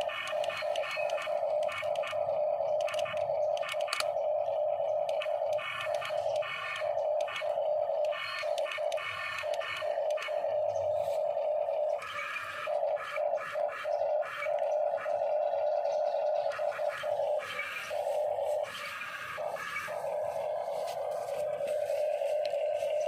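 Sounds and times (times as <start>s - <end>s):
small gear motors whirring: 0.0s - 23.0s.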